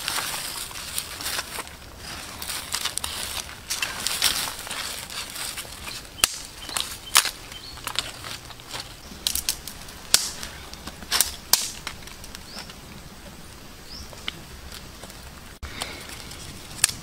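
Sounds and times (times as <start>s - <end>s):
dry leaves and twigs crunching: 0.0s - 17.0s.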